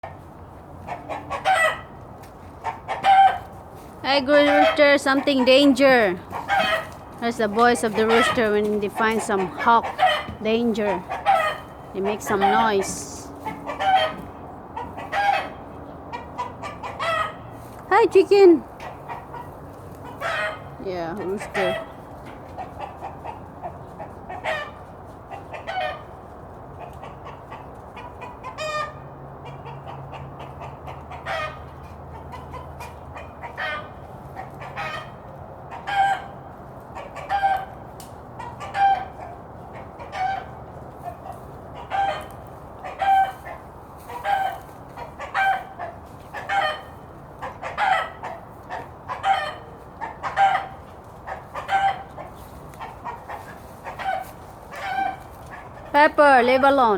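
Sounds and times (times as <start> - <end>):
rooster alarm calls: 0.8 - 2.0, 2.6 - 17.6, 18.8 - 26.2, 27.0 - 56.9.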